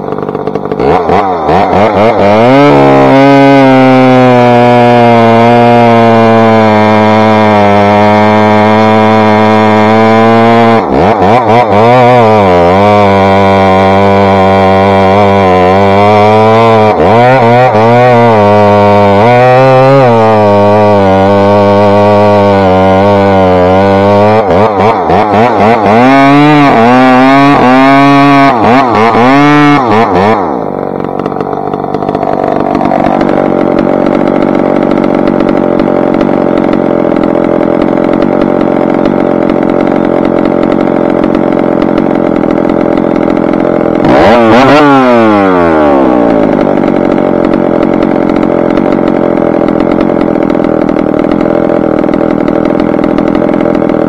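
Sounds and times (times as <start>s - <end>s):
chainsaw cutting at high revs: 0.0s - 54.0s
chainsaw idling: 0.0s - 54.0s
chainsaw throttle blip: 0.0s - 54.0s.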